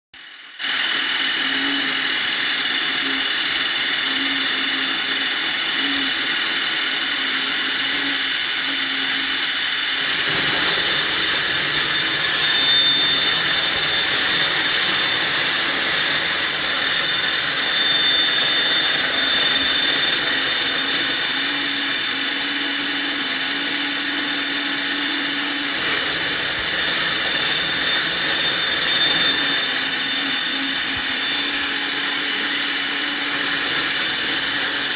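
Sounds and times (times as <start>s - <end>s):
milling machine high whine: 0.2s - 34.9s.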